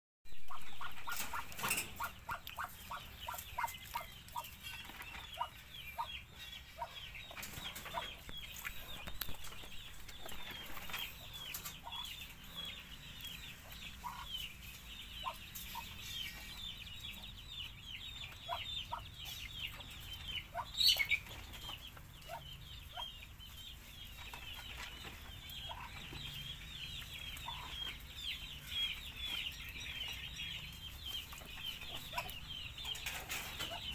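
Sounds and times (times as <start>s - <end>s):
duckling peeping: 0.3s - 33.9s.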